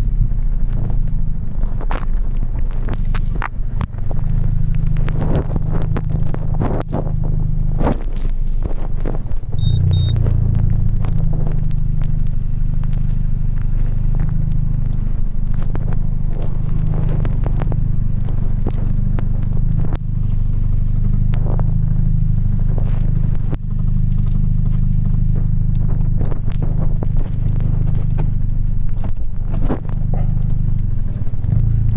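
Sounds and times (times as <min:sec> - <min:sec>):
car engine droning: 0:00.0 - 0:31.9.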